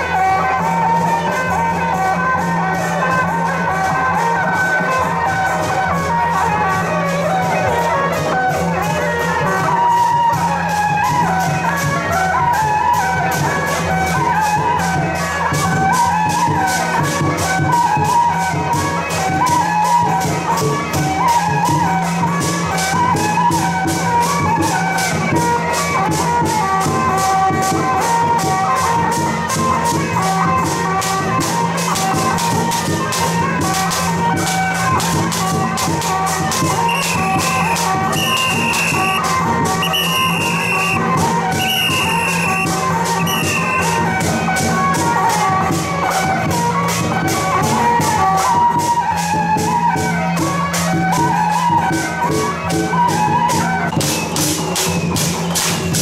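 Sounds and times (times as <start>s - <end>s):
wind instrument melody: 0.0s - 50.3s
drums and cymbals beat: 0.0s - 56.0s.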